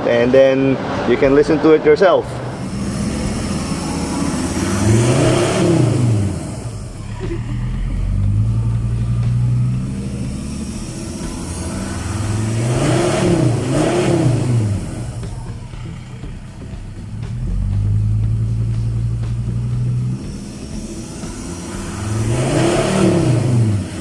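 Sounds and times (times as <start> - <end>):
diesel engine idling and revving: 0.0 - 24.0.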